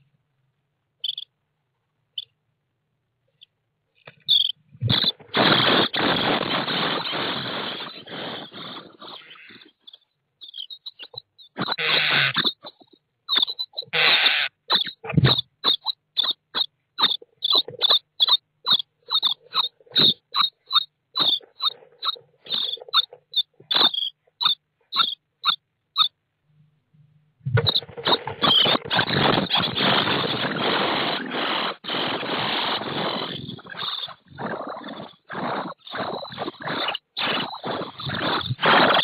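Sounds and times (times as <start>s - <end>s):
nestlings begging calls: 4.2s - 26.1s, 27.6s - 39.0s.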